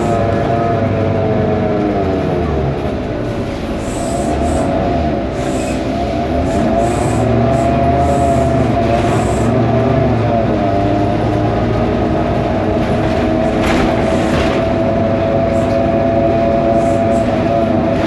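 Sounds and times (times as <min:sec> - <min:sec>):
bus drivetrain rumble: 0:00.0 - 0:18.0
high-pitched engine whine: 0:03.2 - 0:18.0.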